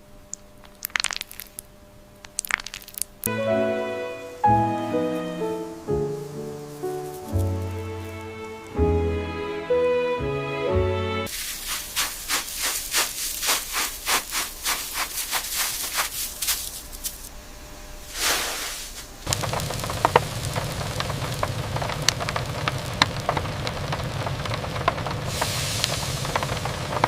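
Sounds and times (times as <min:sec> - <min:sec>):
food frying with crackles: 0:00.0 - 0:01.6, 0:02.2 - 0:03.3, 0:04.0 - 0:08.3, 0:11.3 - 0:17.3, 0:18.1 - 0:27.0.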